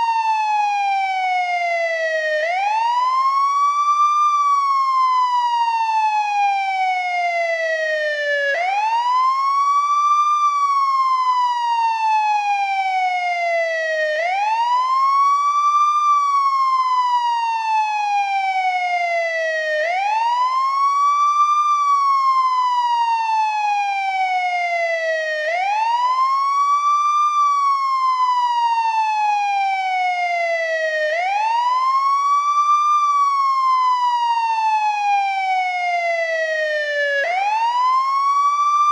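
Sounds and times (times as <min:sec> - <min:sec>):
ambulance wail siren: 0:00.0 - 0:38.9.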